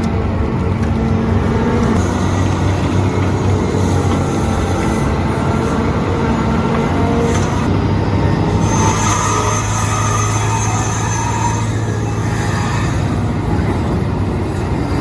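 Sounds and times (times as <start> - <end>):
large diesel engine running: 0.0 - 15.0.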